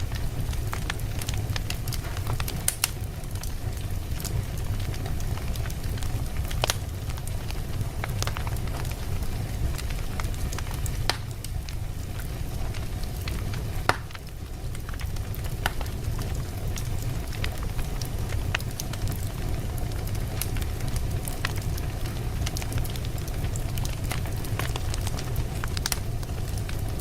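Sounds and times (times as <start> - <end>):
burning wood crackling and popping: 0.0 - 27.0
fire flames rumbling: 0.0 - 27.0.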